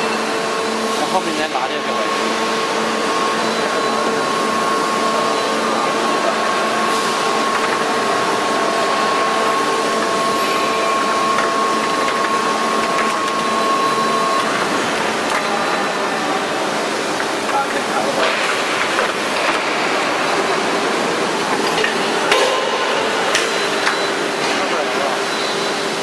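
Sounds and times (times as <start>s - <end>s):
injection moulding machine running: 0.0s - 26.0s
mechanical whine: 0.0s - 26.0s.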